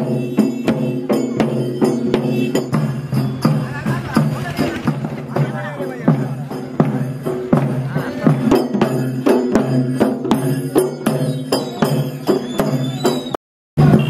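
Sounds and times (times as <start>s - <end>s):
hand cymbals beating: 0.0s - 14.0s
percussion: 0.0s - 14.0s.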